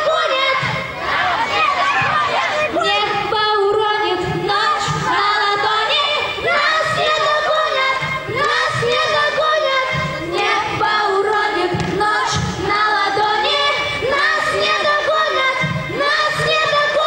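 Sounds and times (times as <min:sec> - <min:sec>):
girls singing into microphones: 0:00.0 - 0:17.0.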